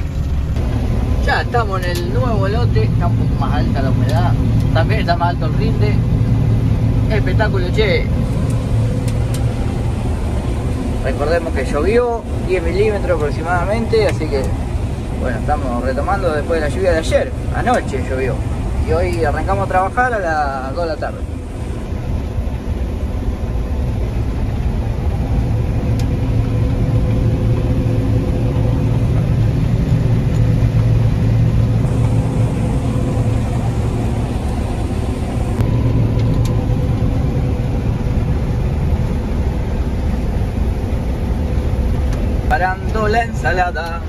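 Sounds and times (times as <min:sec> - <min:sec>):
combine harvester engine drone: 0:00.0 - 0:44.0
steady machine hum: 0:00.0 - 0:44.0.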